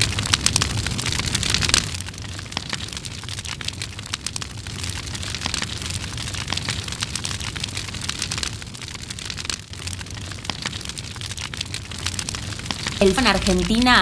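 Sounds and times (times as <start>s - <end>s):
fire crackling: 0.0s - 14.0s
low fire rumble: 0.0s - 14.0s.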